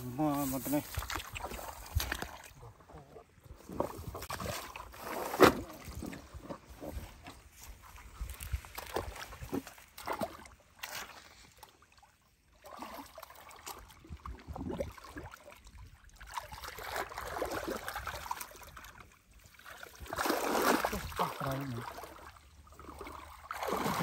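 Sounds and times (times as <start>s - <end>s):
muddy water sloshing and splashing: 0.0s - 24.0s.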